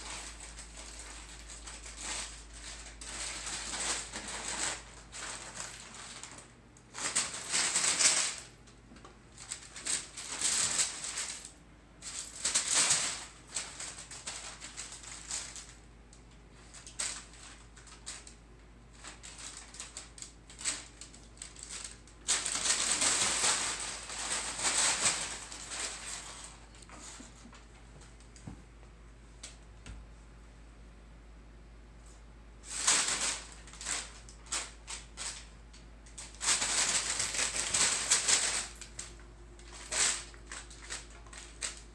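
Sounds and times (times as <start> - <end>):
cats scrambling: 0.0 - 8.5, 9.4 - 15.8, 16.6 - 27.6, 32.6 - 41.9
packing paper crinkling: 0.0 - 8.6, 9.3 - 15.9, 16.5 - 27.2, 32.7 - 41.9.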